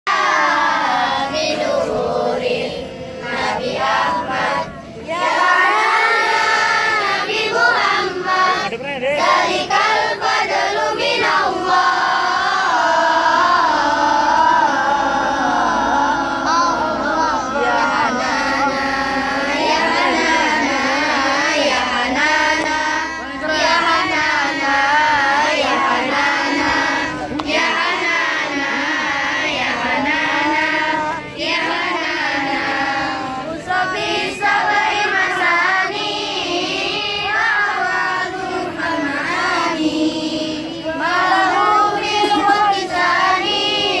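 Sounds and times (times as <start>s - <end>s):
children singing in unison: 0.1s - 44.0s.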